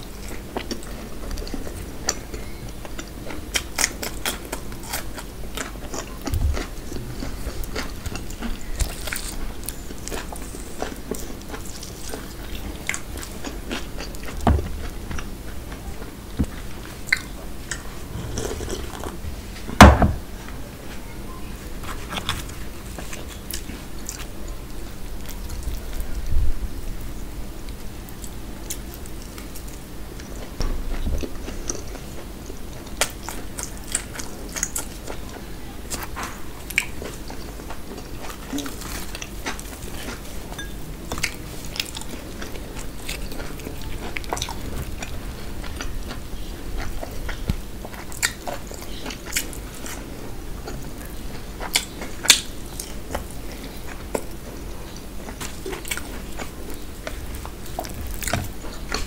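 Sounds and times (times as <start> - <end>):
biting and chewing crisp food: 0.0 - 20.0, 21.7 - 26.3, 27.4 - 59.0.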